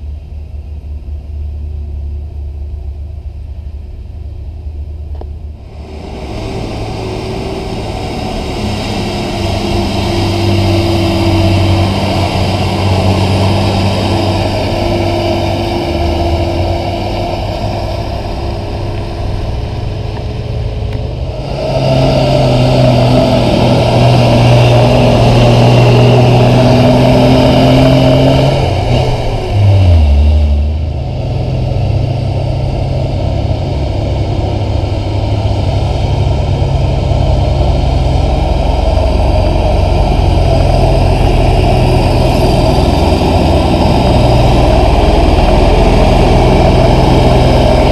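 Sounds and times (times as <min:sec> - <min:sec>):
diesel dump truck engines: 0:00.0 - 0:47.9.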